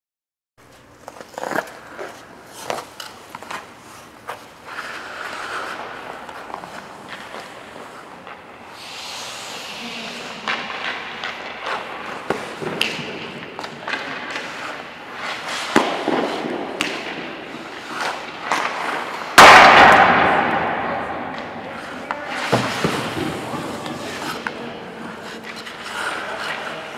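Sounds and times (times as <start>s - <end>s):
skate blades scraping on ice: 0.7s - 20.6s, 21.4s - 26.9s
hockey sticks and puck clacking: 0.7s - 26.9s.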